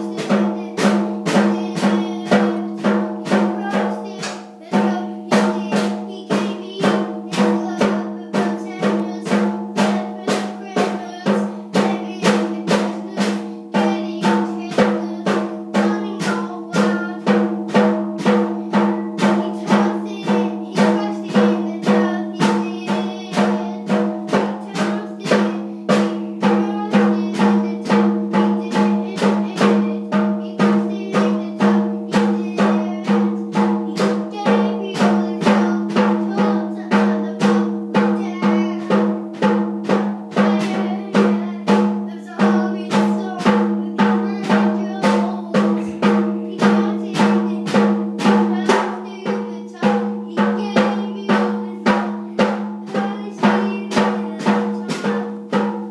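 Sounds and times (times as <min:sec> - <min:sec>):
toy drums beaten with sticks: 0:00.0 - 0:55.9.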